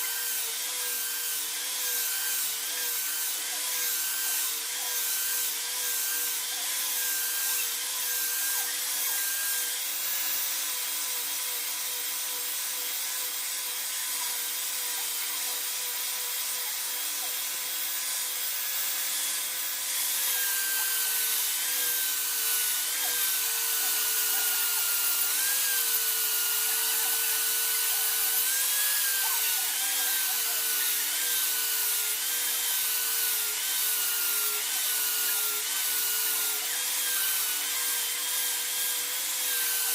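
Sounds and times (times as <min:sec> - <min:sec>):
electric power tool whining: 0:00.0 - 0:39.9.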